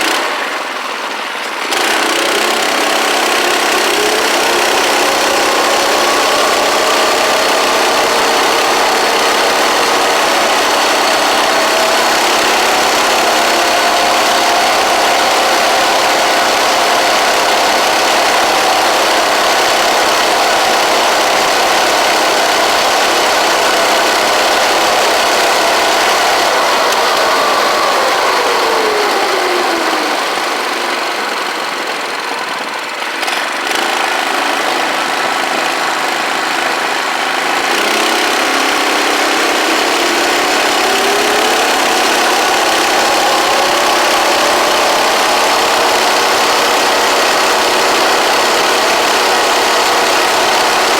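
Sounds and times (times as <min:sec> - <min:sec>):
small engine running at speed: 0:00.0 - 0:50.9.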